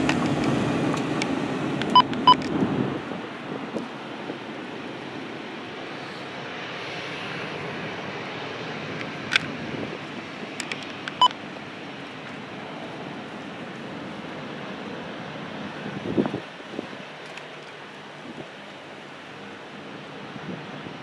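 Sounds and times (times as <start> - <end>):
distant aircraft rushing: 0.0 - 21.0.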